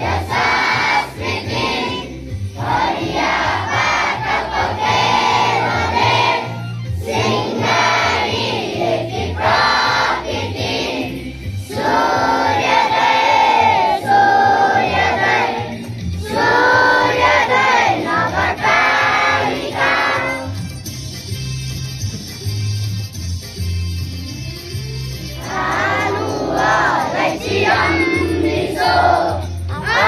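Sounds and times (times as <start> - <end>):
children singing in unison: 0.0 - 20.5, 25.4 - 30.0.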